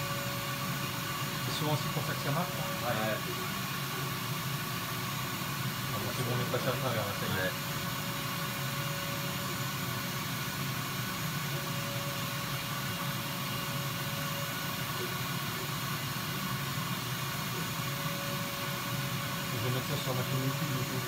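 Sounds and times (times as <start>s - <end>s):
laser cutter whirring drone: 0.0s - 21.0s.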